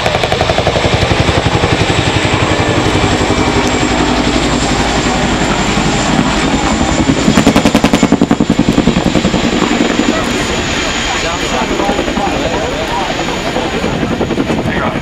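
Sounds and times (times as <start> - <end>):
helicopter rotors beating: 0.0 - 15.0.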